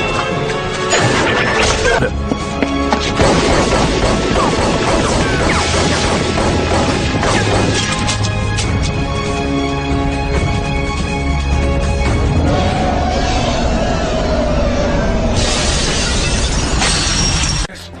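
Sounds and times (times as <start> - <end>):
dramatic music: 0.0 - 18.0.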